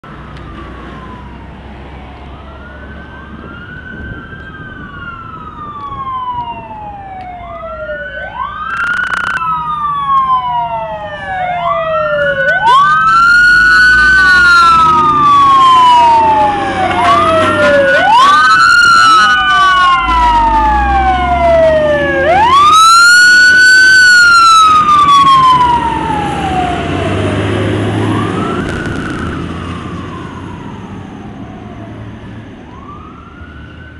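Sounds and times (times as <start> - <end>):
truck engines rumbling: 0.0 - 33.9
fire truck sirens wailing: 0.1 - 33.9.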